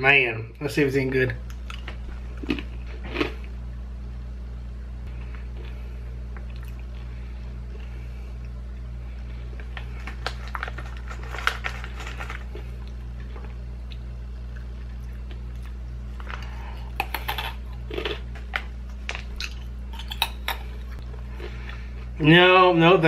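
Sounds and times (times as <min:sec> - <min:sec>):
steady low hum: 0:00.0 - 0:23.0
crackers being chewed: 0:01.4 - 0:03.6, 0:05.1 - 0:22.2.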